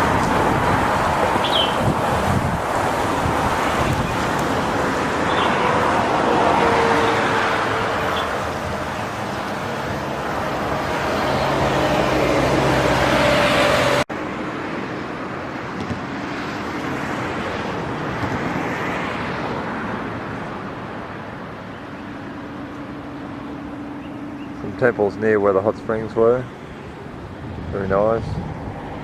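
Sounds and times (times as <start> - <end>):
road and wind noise: 0.0 - 29.0.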